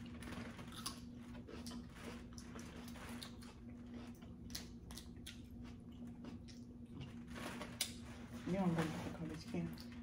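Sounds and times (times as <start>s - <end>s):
people eating and chewing: 0.0s - 8.5s
steady low hum: 0.0s - 10.0s.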